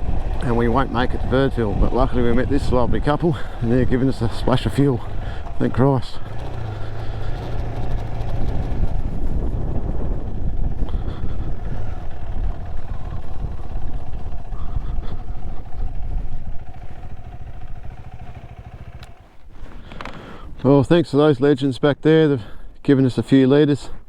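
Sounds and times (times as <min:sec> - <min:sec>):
vehicle on unsealed road: 0:00.0 - 0:24.0.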